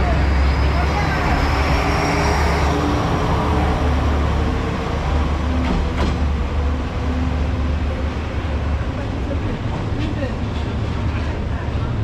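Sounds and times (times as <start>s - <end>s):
diesel train engine rumble: 0.0s - 12.0s
train running on rails: 0.0s - 12.0s.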